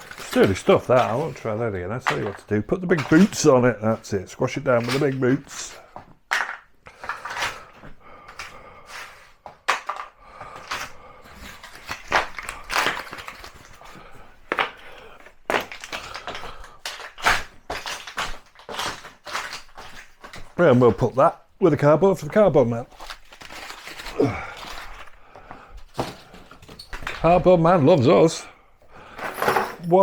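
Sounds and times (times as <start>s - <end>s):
cardboard crushed underfoot: 0.0s - 6.0s, 9.0s - 27.8s.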